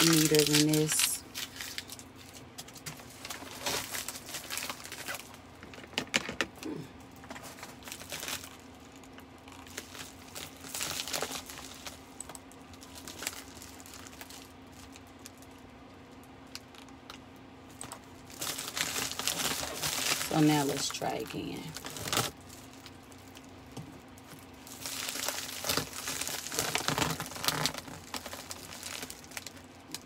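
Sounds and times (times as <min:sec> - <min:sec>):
plastic mailer crinkling: 0:00.0 - 0:15.6, 0:17.7 - 0:30.0.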